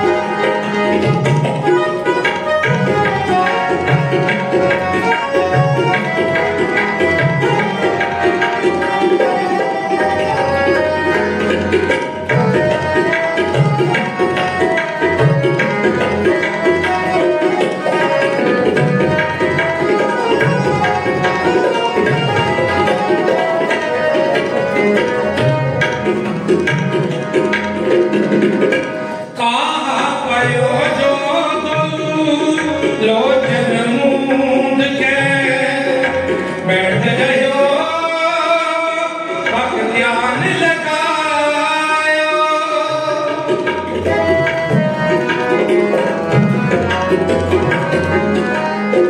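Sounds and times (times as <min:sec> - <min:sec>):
harmoniums playing melody: 0:00.0 - 0:49.0
tabla drumming: 0:00.0 - 0:49.0.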